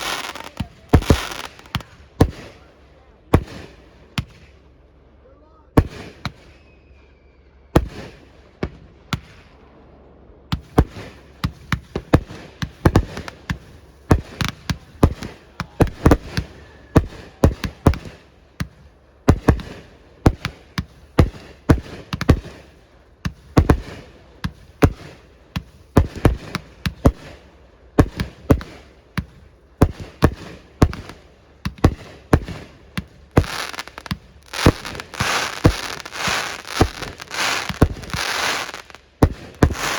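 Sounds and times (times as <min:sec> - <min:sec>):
fireworks crackling: 0:00.0 - 0:04.6, 0:05.8 - 0:06.5, 0:10.5 - 0:39.9
fireworks bangs: 0:00.0 - 0:04.7, 0:05.8 - 0:06.8, 0:07.8 - 0:39.9.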